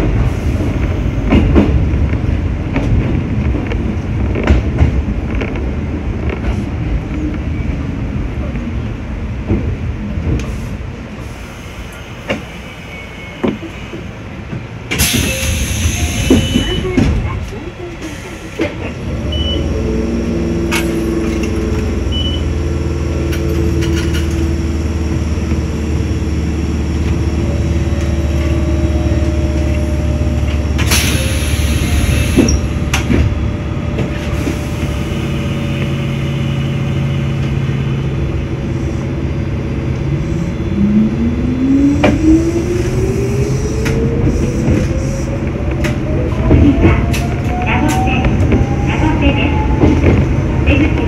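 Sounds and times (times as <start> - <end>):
train equipment humming: 0.0 - 51.0.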